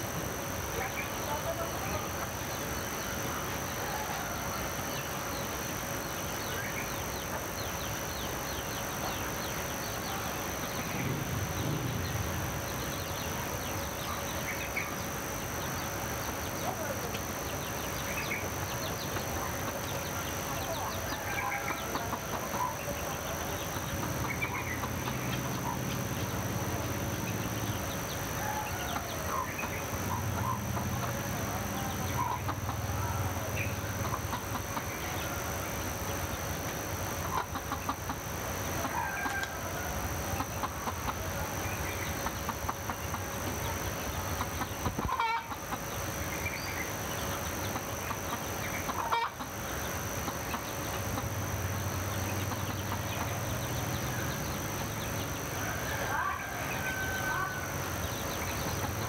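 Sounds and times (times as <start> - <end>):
chickens clucking: 5.6 - 59.0.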